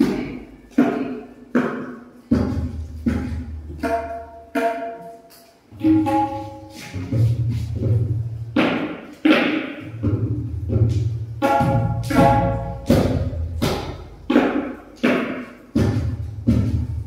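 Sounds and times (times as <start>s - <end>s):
tabla strokes: 0.0s - 17.0s.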